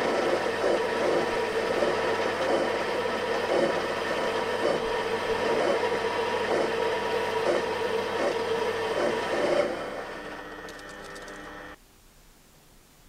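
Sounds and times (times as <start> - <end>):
lathe spindle hum: 0.0 - 11.8
lathe tool cutting metal: 0.0 - 11.8.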